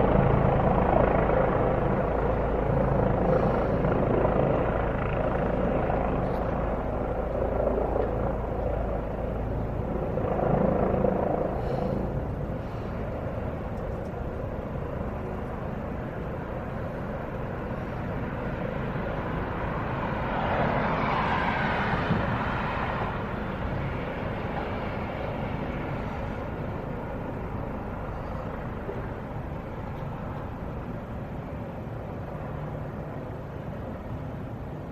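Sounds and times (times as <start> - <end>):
helicopter rotor and engine: 0.0 - 34.9.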